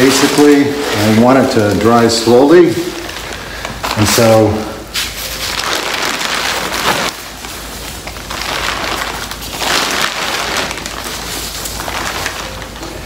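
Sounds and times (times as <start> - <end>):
plastic sheeting crinkling: 0.0 - 13.0.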